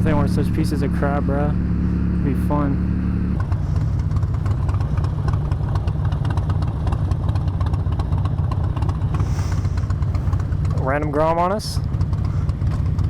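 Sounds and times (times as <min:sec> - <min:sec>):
motorcycle engine droning: 0:00.0 - 0:13.0
road and wind noise: 0:00.0 - 0:13.0.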